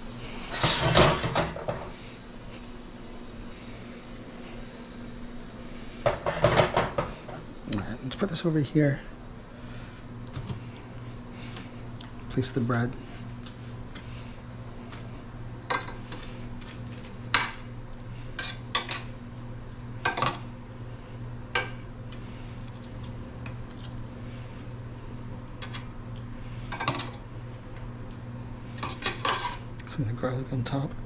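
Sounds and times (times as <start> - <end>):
kitchen exhaust fan hum: 0.0 - 31.0.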